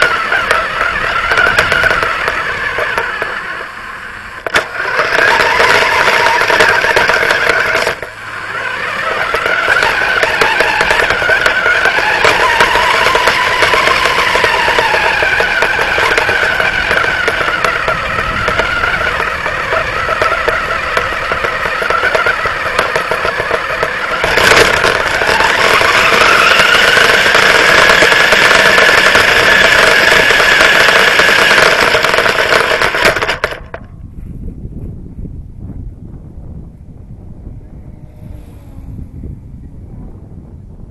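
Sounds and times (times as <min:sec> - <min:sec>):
toy truck motor whine: 0:00.0 - 0:33.9
chassis and tyres rattling: 0:00.0 - 0:34.0.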